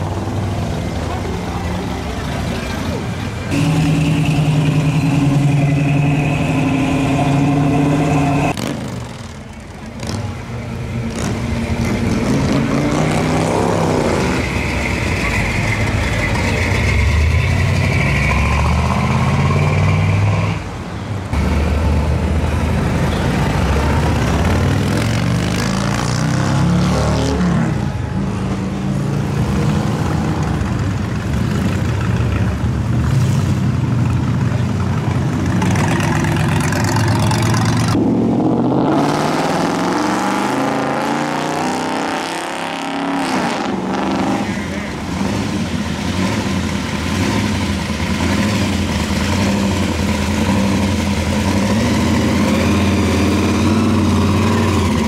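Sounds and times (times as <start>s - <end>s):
car engines with deep exhaust: 0.0s - 55.0s.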